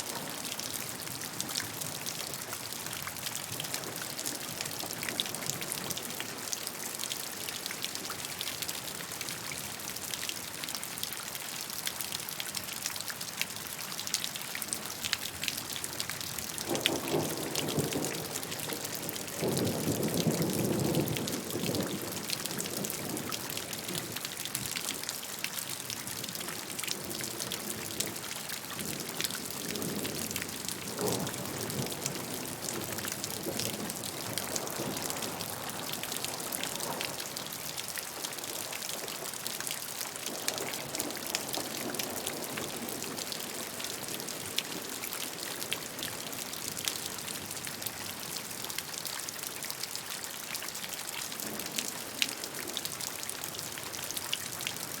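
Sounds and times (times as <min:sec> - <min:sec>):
rain drops pattering: 0:00.0 - 0:55.0.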